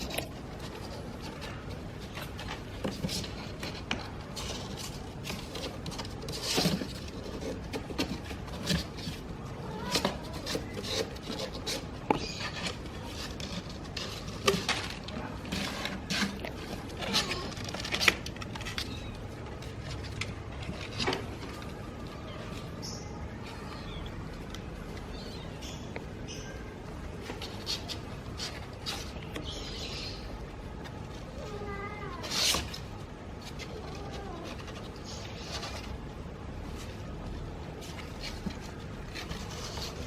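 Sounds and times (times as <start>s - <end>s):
kitten claws scratching cardboard: 0.0s - 31.2s, 32.1s - 40.0s.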